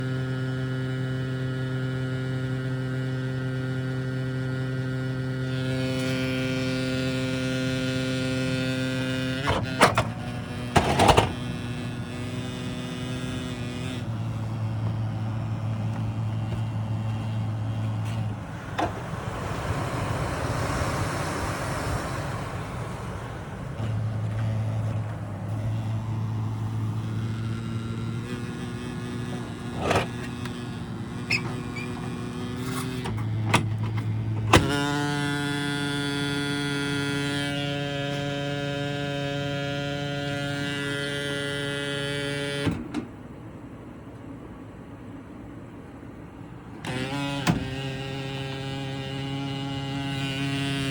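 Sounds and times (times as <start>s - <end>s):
electrical buzzing hum: 0.0s - 50.9s.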